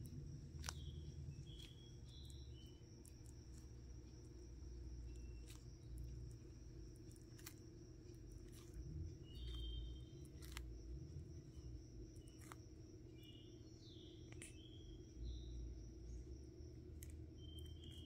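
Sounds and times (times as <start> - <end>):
tortoise crunching lettuce: 0.0 - 13.6, 16.0 - 18.0
steady low hum: 0.0 - 18.0.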